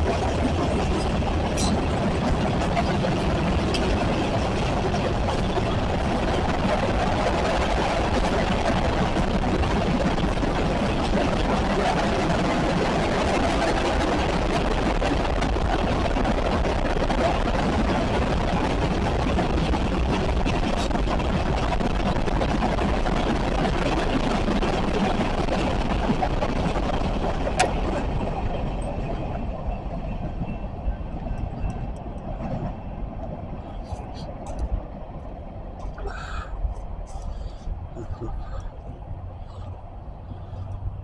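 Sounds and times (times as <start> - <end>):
train wheels clattering on rails: 0.0 - 41.0.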